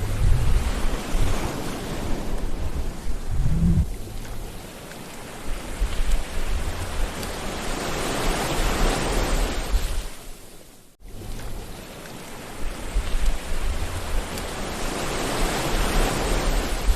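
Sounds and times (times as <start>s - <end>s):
deep rumble of surf: 0.0s - 10.1s, 11.1s - 16.9s
sea waves breaking: 0.0s - 10.4s, 11.1s - 16.9s.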